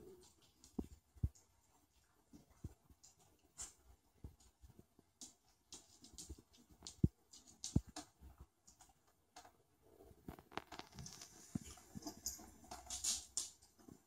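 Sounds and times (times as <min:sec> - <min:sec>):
claws clicking and scrabbling: 0:00.0 - 0:14.0.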